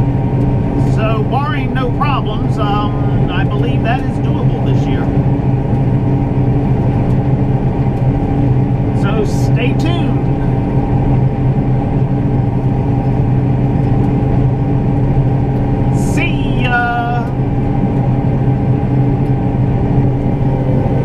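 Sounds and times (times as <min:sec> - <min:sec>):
farm machinery engine droning: 0:00.0 - 0:21.0.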